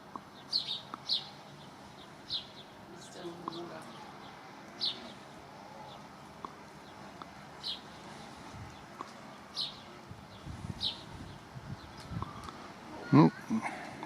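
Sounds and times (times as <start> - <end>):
small bird chirping: 0.2 - 6.1, 6.8 - 13.6.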